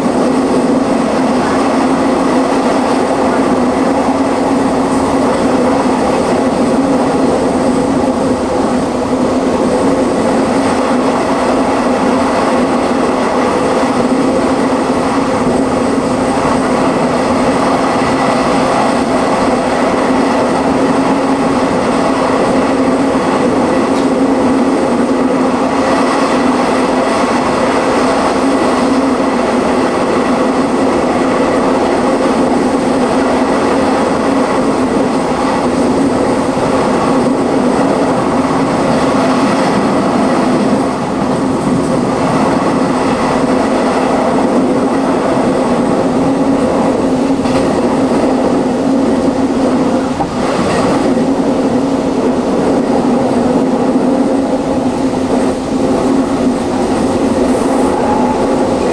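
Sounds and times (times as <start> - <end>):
train wheels rumbling on track: 0.0 - 58.9.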